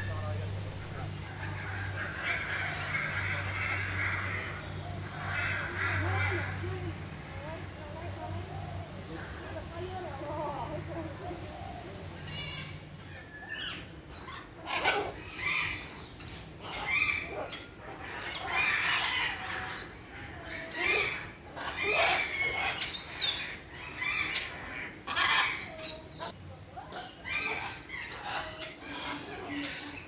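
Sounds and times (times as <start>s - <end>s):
parrots squawking: 0.0s - 10.8s, 11.6s - 30.0s.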